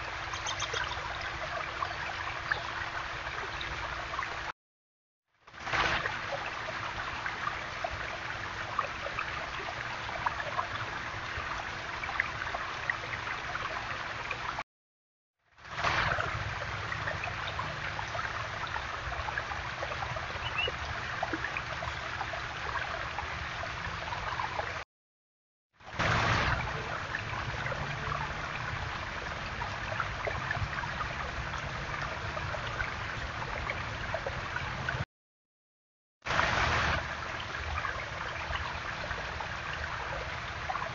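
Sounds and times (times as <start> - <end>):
water trickling over rocks: 0.0 - 4.5, 5.4 - 14.6, 15.4 - 24.8, 25.8 - 35.0, 36.3 - 40.9.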